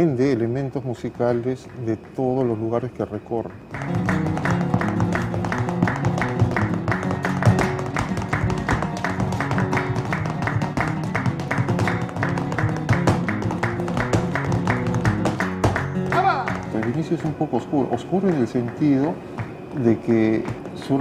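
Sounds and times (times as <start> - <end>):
flamenco guitar strumming: 3.6 - 21.0.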